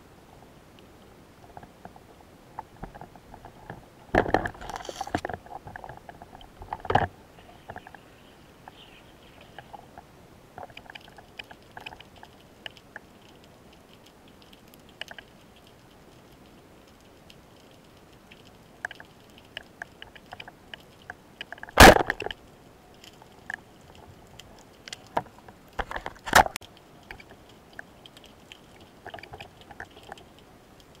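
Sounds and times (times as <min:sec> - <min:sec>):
faint underwater clicks: 0:00.8 - 0:31.0.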